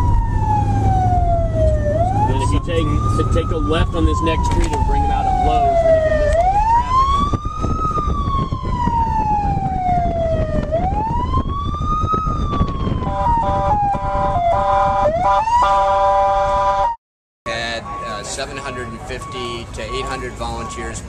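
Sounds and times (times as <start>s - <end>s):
car rumbling: 0.0s - 16.8s, 17.5s - 21.0s
siren wailing: 0.0s - 17.0s, 17.6s - 21.0s.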